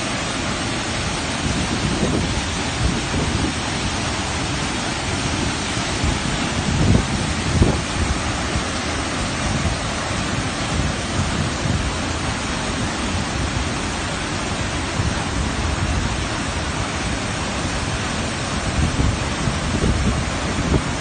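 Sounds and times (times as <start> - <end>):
waterfall and rushing river: 0.0 - 21.0.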